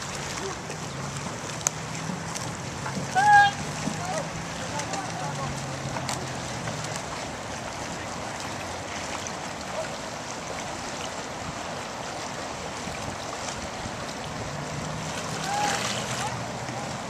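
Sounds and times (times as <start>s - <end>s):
water washing: 0.0s - 17.0s.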